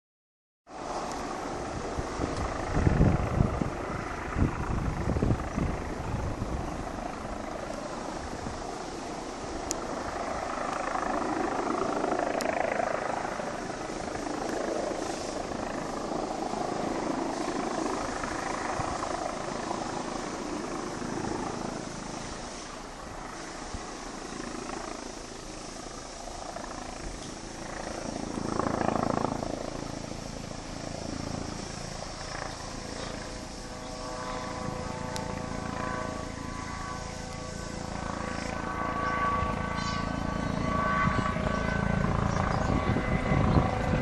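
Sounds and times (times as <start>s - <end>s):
helicopter hovering overhead: 0.7s - 44.0s.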